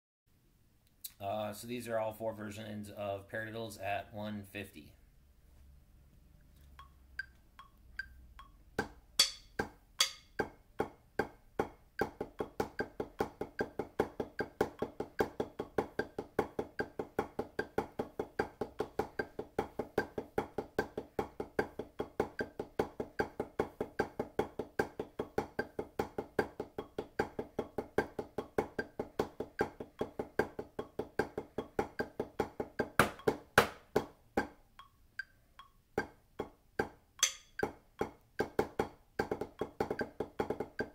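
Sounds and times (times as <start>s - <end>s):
drumsticks on practice pad: 6.6s - 40.9s.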